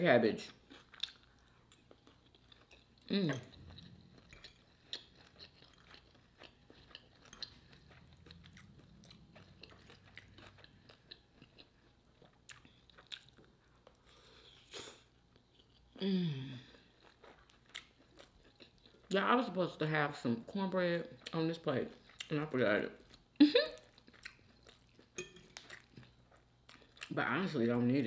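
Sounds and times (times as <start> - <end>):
close chewing and mouth sounds: 0.4 - 27.6.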